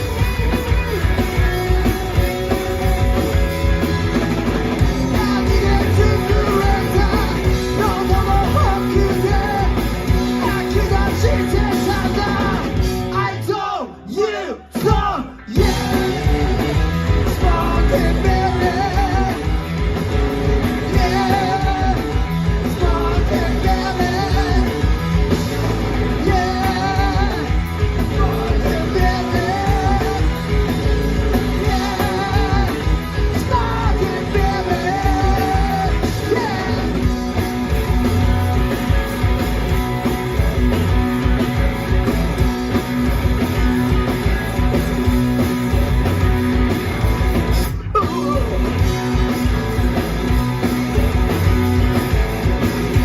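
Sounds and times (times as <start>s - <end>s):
rock song: 0.0s - 53.0s.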